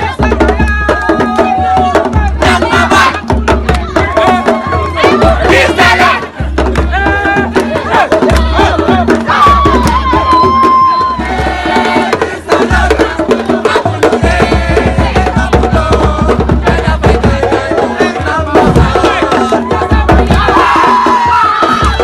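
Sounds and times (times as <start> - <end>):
fast hand percussion beat: 0.0 - 22.0.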